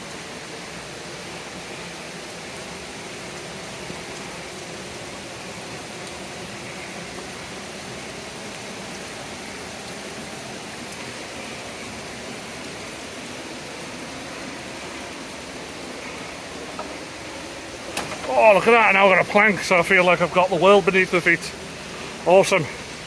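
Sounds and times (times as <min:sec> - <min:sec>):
rain water hissing: 0:00.0 - 0:23.0.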